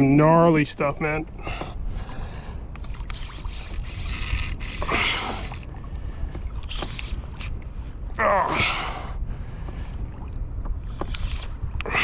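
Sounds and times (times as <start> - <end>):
wind rumbling on the microphone: 0.0 - 12.0
water lapping around a boat: 0.9 - 12.0.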